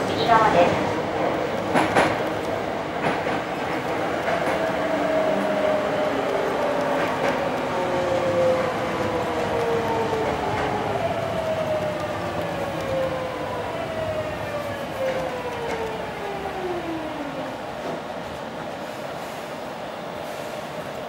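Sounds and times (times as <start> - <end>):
train car rumble: 0.0 - 21.0.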